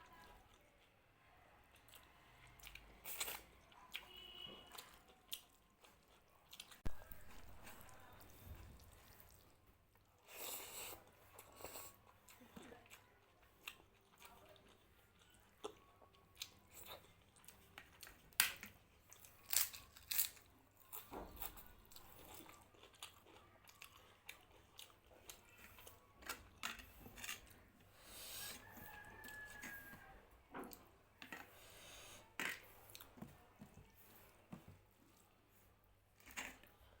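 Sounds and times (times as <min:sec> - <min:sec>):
food crunching: 0:01.7 - 0:33.8, 0:36.1 - 0:37.0
person chewing food: 0:01.7 - 0:37.0.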